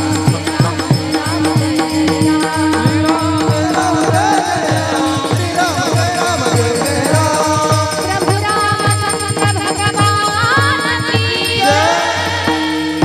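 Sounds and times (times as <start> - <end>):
jingling percussion: 0.0 - 13.0
person singing wavering melody: 0.0 - 13.0
steady drum beat: 0.0 - 13.0.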